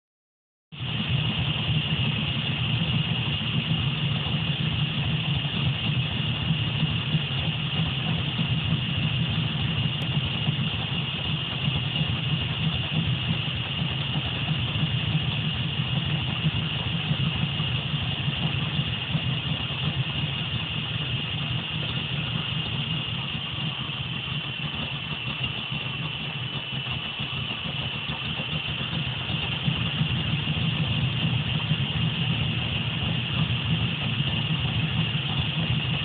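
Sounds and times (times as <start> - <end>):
car engine idling: 0.8 - 36.0.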